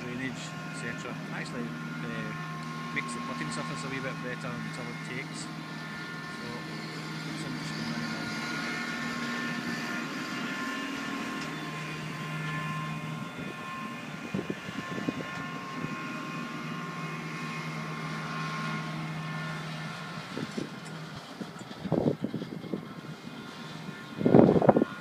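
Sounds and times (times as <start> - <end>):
turf machine engine humming: 0.0 - 25.0.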